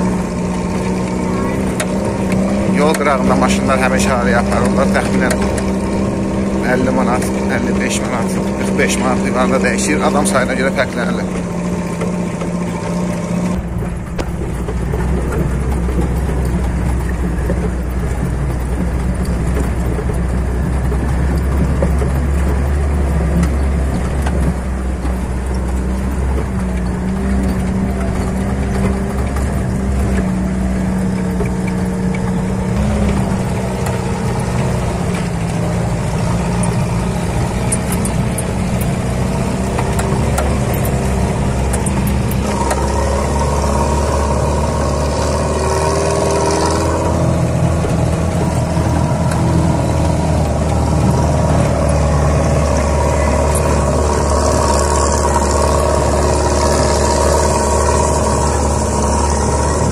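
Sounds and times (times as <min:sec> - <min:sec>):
body rattles: 0:00.0 - 0:59.9
higher whine: 0:00.0 - 0:59.9
vehicle engine drone: 0:00.0 - 0:59.9.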